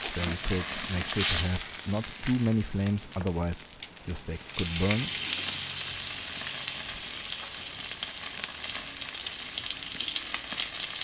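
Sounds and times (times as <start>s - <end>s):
fat crackling and popping: 0.0s - 11.0s
steak sizzling on a grill: 0.0s - 11.0s.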